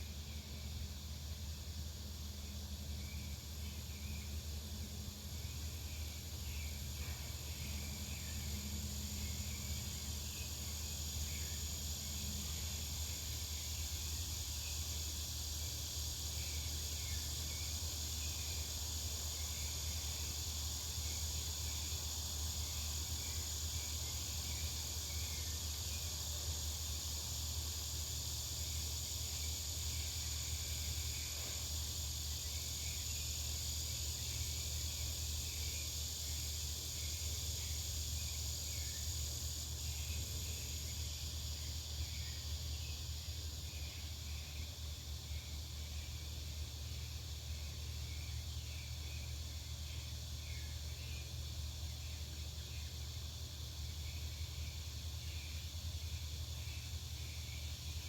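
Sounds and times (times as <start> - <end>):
high-pitched insect chorus: 0.0 - 58.0
short insect chirps: 0.0 - 58.0.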